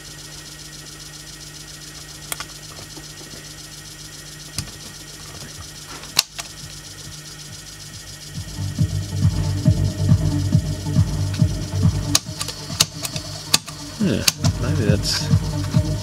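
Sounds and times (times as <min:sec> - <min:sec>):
sharp electrical clicks and pops: 0:00.0 - 0:08.6, 0:09.3 - 0:16.0
amplifier low hum: 0:00.0 - 0:16.0.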